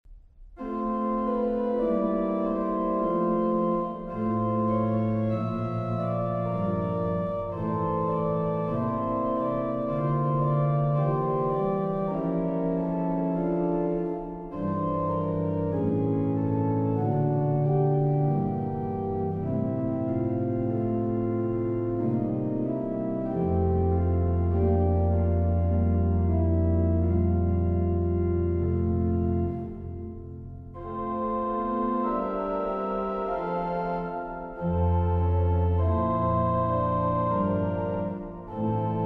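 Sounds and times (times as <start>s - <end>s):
church organ chords: 0.6s - 39.0s.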